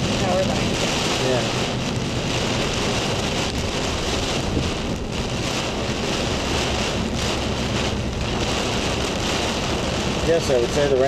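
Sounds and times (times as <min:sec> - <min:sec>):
heavy rain pouring: 0:00.0 - 0:11.0
wind buffeting microphone: 0:00.0 - 0:11.0.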